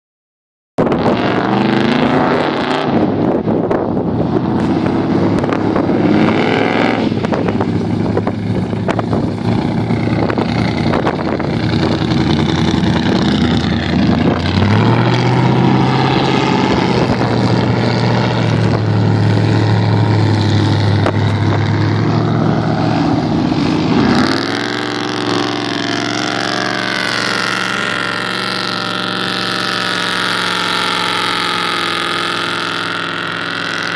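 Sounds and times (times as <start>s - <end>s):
vehicle engines revving: 0.8s - 33.9s.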